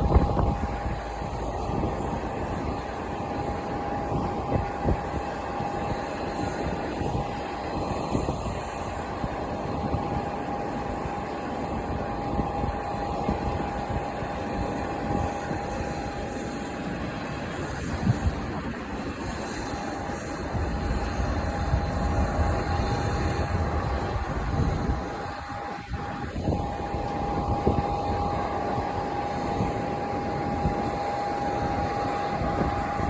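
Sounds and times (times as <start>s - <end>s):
jet engines whining: 0.0s - 33.0s
wind buffeting microphone: 0.0s - 33.0s.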